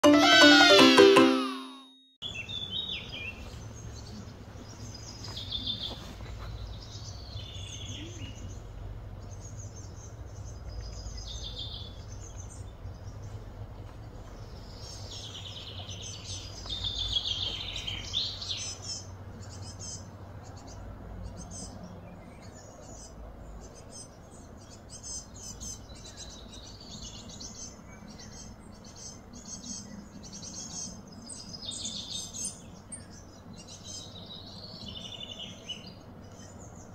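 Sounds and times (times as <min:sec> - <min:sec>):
birds chirping and trilling: 0:02.2 - 0:13.4, 0:14.2 - 0:36.9.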